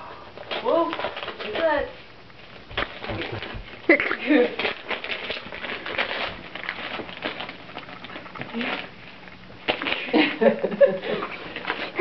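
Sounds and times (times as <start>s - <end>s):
wrapping paper crinkling and tearing: 0.3s - 12.0s.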